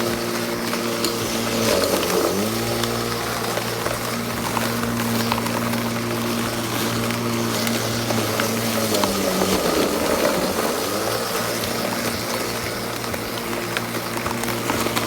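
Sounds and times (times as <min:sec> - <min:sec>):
electric lawnmower running: 0:00.0 - 0:15.0
rustling small ticks: 0:00.0 - 0:15.0.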